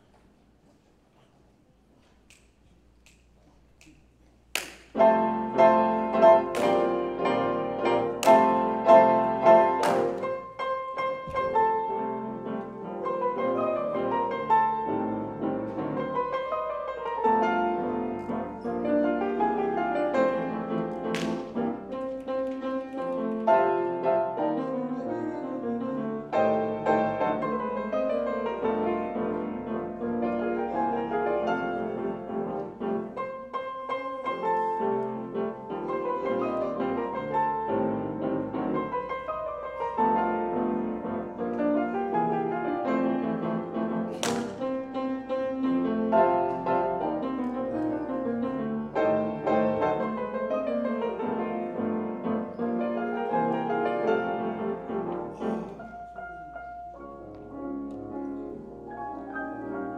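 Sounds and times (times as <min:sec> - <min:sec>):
several pianos playing: 0:04.9 - 0:59.9.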